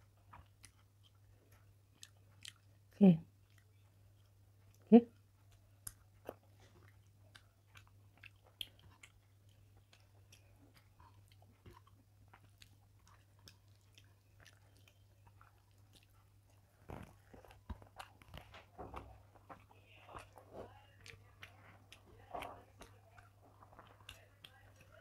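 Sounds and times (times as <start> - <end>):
wet chewing: 0.0 - 25.0.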